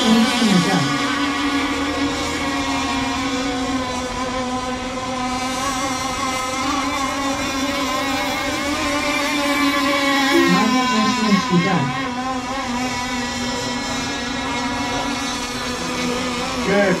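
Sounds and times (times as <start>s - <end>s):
model boat motor whining: 0.0s - 17.0s.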